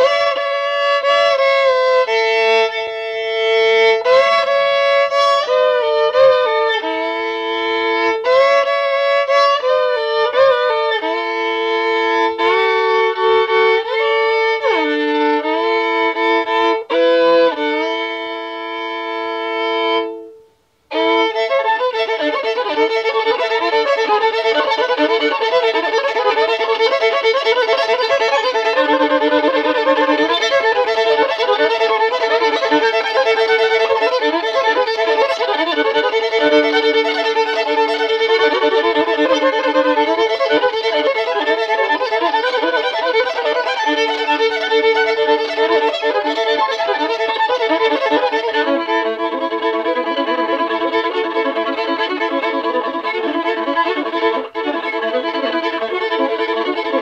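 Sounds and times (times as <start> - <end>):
fiddle music: 0.0 - 57.0.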